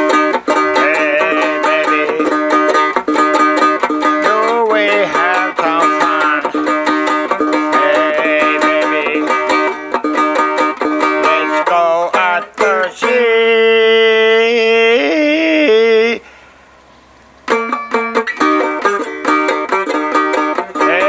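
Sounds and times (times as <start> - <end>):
fast plucked-string picking: 0.0 - 16.2, 17.1 - 21.0.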